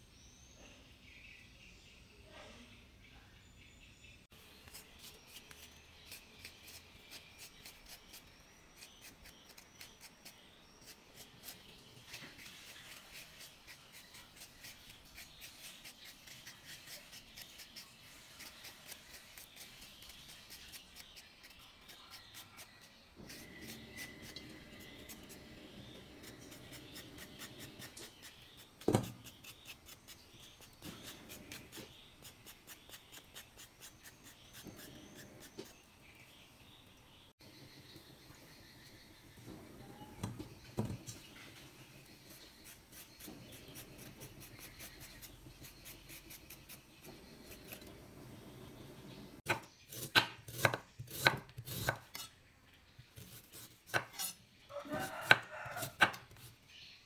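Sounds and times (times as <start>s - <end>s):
scraping ginger skin: 4.5s - 36.2s, 41.3s - 52.3s, 53.2s - 56.6s.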